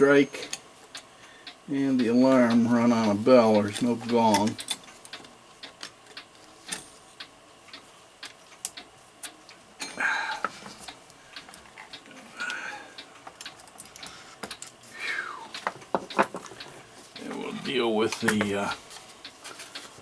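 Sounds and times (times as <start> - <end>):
clock ticking: 0.0 - 6.3, 7.2 - 19.9.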